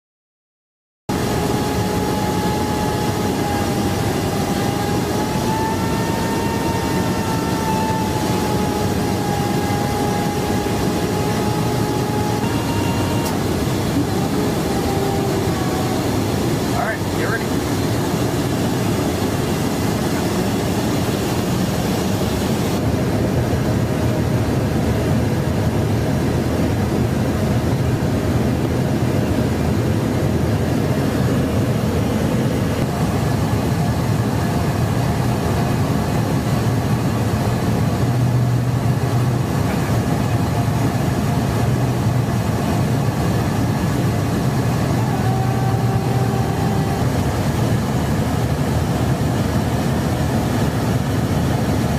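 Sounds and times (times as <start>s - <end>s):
aircraft engine and airflow drone: 1.1s - 51.9s.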